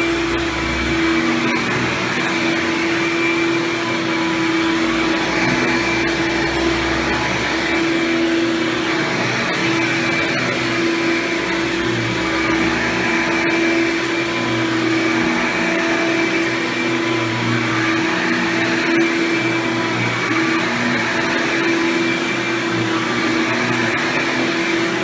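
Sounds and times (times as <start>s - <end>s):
vacuum cleaner motor hum: 0.0s - 25.0s.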